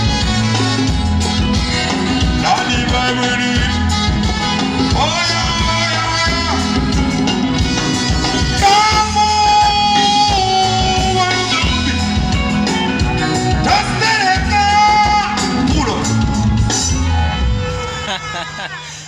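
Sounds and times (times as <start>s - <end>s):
electric guitar: 0.0s - 18.9s
bass and drum beat: 0.0s - 19.0s.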